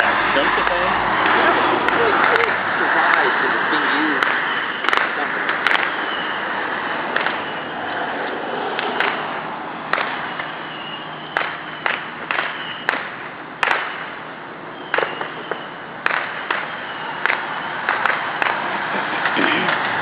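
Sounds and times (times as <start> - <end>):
fireworks popping and cracking: 1.1 - 7.7, 8.3 - 20.0.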